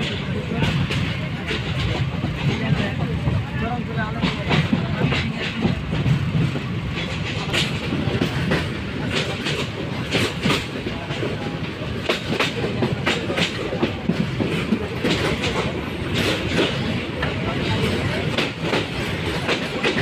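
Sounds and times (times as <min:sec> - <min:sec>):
train carriage rumble: 0:00.0 - 0:20.0.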